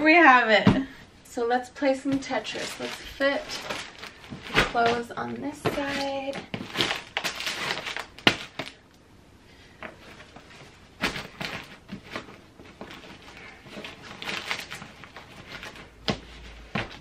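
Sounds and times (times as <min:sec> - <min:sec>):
clothes rustling in suitcase: 0:01.9 - 0:08.7, 0:09.8 - 0:17.0.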